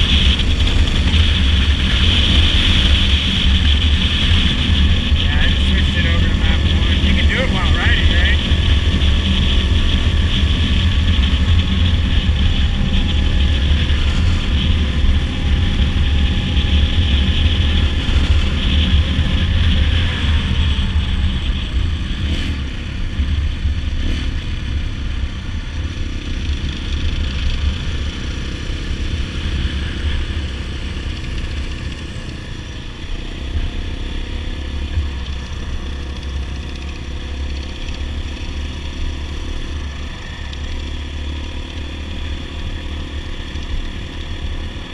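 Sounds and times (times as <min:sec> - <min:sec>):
dirt bike engine running: 0:00.0 - 0:44.9
wind rumble on microphone: 0:00.0 - 0:44.9.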